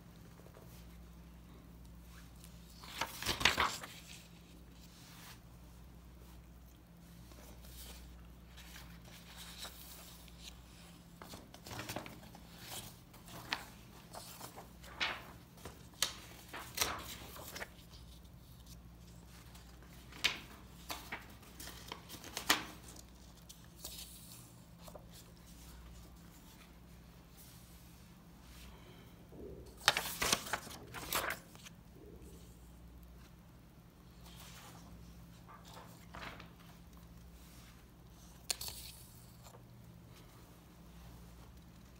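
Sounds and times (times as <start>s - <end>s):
paper pages rustling: 2.0s - 27.6s, 29.6s - 31.8s, 34.2s - 40.3s.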